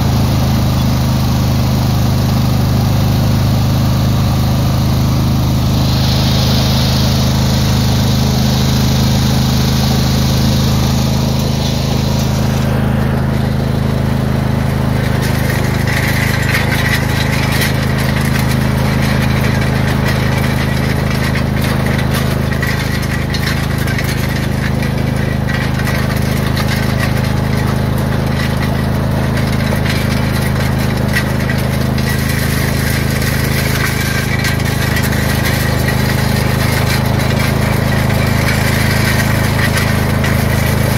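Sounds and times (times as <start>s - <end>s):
gravel crunching and clinking: 0.0s - 40.9s
lawn tractor engine running: 0.0s - 40.9s.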